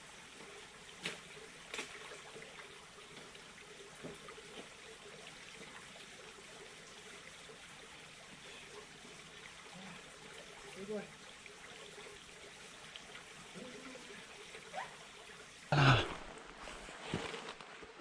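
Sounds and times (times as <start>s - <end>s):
faint rush of water: 0.0s - 18.0s.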